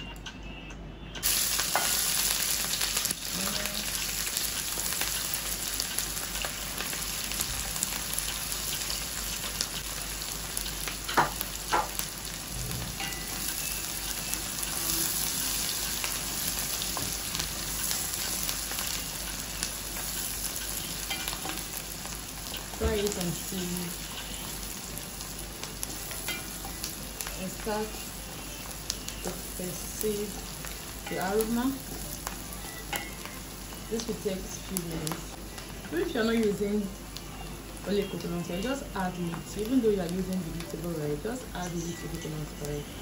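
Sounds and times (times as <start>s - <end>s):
onions sizzling in oil: 1.2s - 43.0s.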